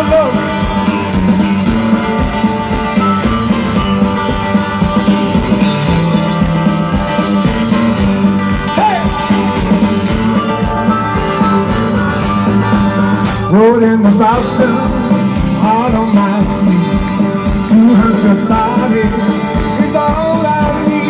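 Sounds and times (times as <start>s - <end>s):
electric guitar: 0.0s - 21.0s
live rock and roll band: 0.0s - 21.0s.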